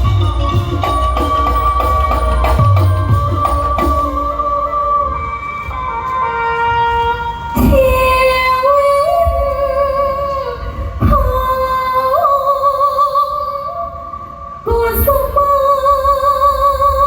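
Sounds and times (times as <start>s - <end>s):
woman singing with vibrato: 0.9s - 17.0s.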